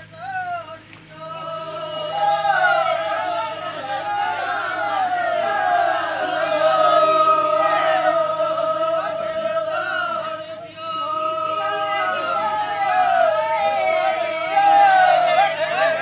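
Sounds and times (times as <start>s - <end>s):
group singing long held notes: 0.0s - 16.0s.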